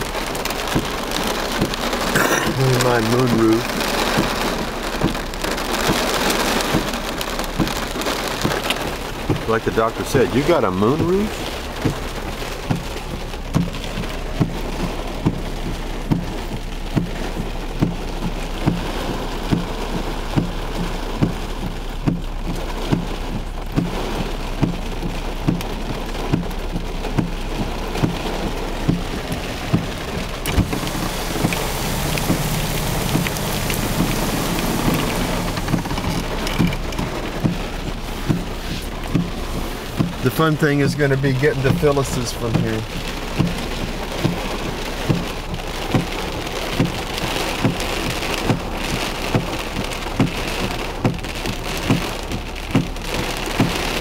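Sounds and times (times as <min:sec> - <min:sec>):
heavy rain on car: 0:00.0 - 0:54.0
low engine hum: 0:00.0 - 0:54.0
windshield wipers thumping: 0:00.0 - 0:54.0.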